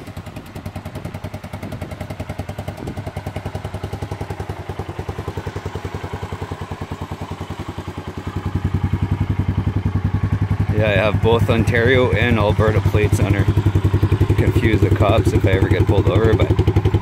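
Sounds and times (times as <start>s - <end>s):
engine idling putter: 0.0s - 17.0s.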